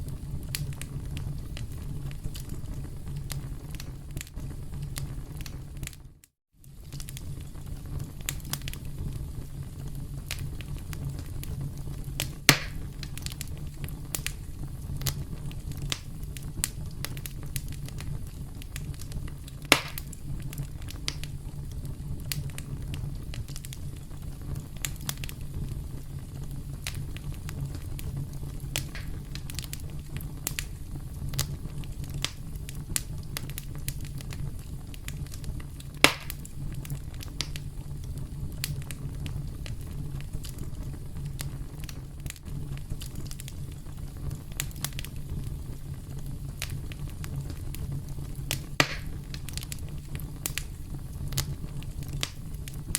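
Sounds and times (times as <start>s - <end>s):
campfire crackling: 0.0s - 52.9s
sharp fire pops: 0.0s - 52.9s.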